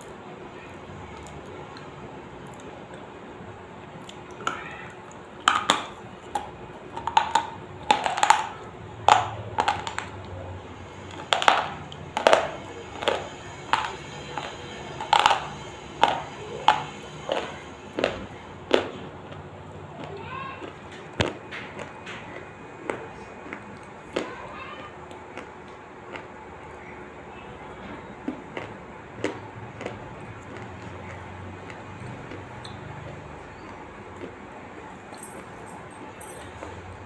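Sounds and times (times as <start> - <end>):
person chewing hard stick crunching: 0.7 - 36.8.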